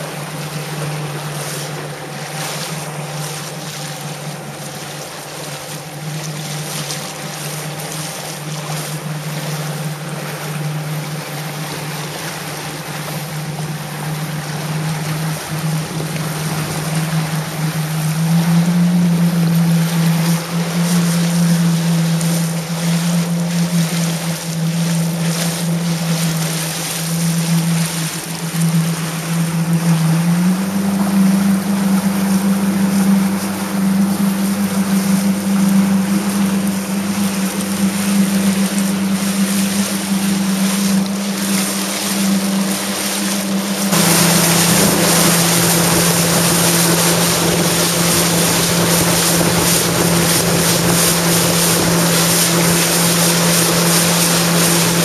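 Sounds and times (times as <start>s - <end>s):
jet ski engine droning: 0.0s - 55.0s
rush of wind and water: 0.0s - 55.0s.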